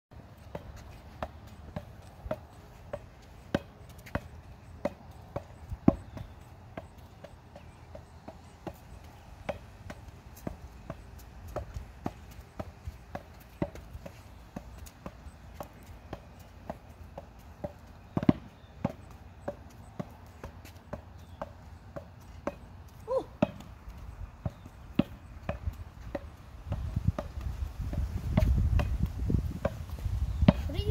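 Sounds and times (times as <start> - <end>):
ball bouncing on concrete: 0.2 - 30.9.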